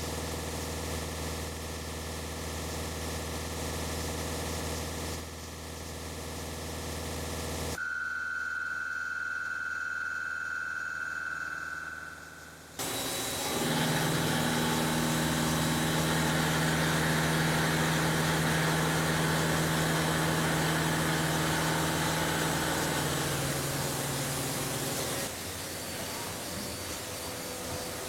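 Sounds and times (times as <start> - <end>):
machine hum with hiss: 0.0 - 28.0.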